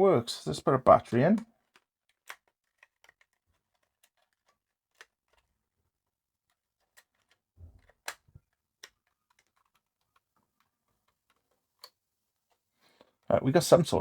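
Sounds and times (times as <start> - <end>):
faint plastic clicks and knocks: 1.2 - 13.3.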